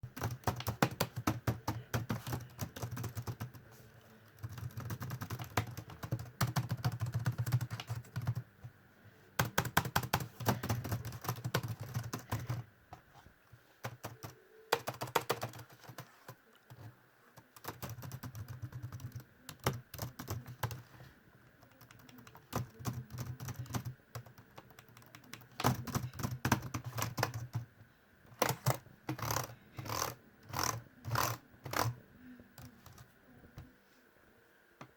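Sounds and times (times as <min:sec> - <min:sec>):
laptop keyboard typing: 0:00.0 - 0:08.4, 0:09.4 - 0:12.7, 0:13.8 - 0:21.0, 0:21.6 - 0:27.7, 0:28.3 - 0:32.0, 0:32.6 - 0:33.1.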